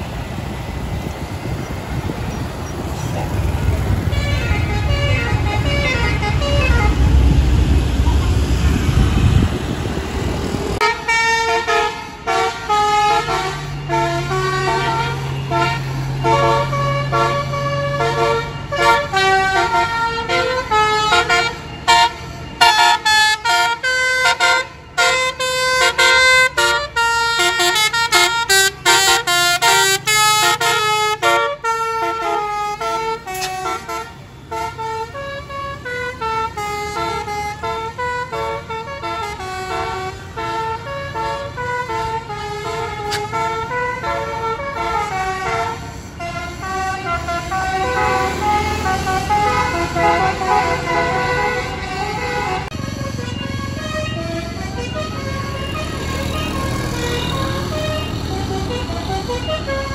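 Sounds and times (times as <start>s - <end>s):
bus horn playing a tune: 3.6s - 9.4s, 10.8s - 59.9s.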